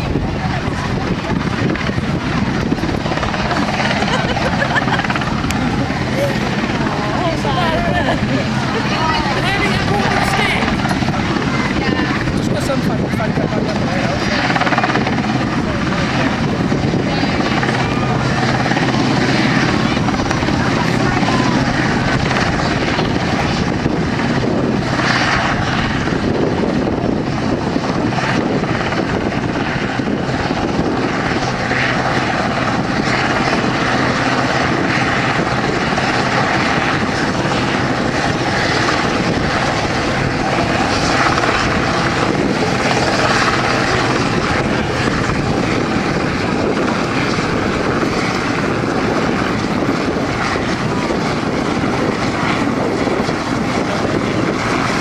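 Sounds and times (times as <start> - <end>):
helicopter rotor and turbine noise: 0.0 - 55.0.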